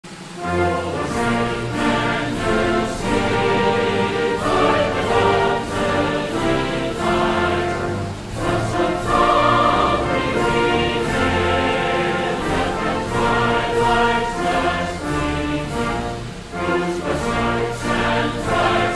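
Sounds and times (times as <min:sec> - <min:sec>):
orchestral backing: 0:00.0 - 0:18.9
choir singing held notes: 0:00.1 - 0:18.9.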